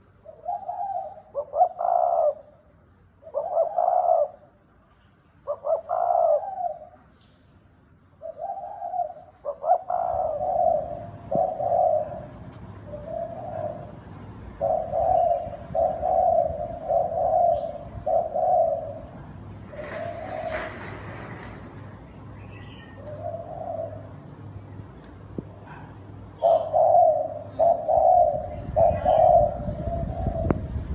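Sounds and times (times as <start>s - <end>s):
dove cooing: 0.0s - 2.6s, 3.2s - 4.6s, 5.4s - 7.0s, 8.2s - 21.8s, 22.8s - 24.3s, 25.5s - 30.7s.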